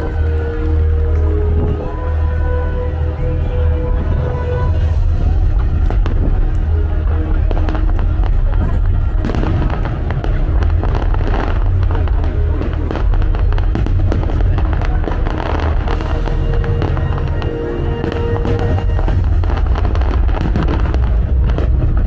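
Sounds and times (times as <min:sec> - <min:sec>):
fireworks popping and banging: 0:00.0 - 0:22.0
low rumble: 0:00.0 - 0:22.0
music playing: 0:00.0 - 0:22.0.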